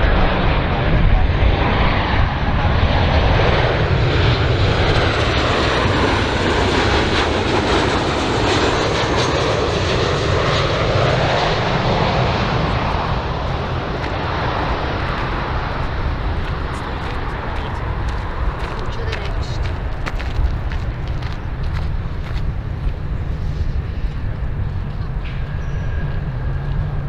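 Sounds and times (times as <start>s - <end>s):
faint high engine whine: 0.0s - 27.0s
jet engine roar: 0.0s - 27.0s.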